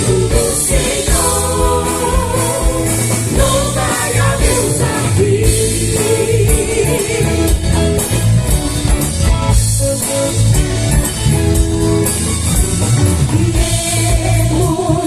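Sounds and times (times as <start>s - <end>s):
drum kit playing: 0.0s - 15.0s
electric guitar playing: 0.0s - 15.0s.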